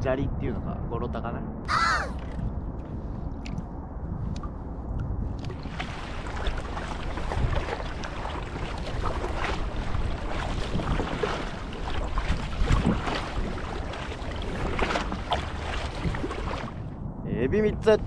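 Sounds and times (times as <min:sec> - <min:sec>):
wind buffeting the microphone: 0:00.0 - 0:18.0
water lapping against a hull: 0:01.7 - 0:17.0.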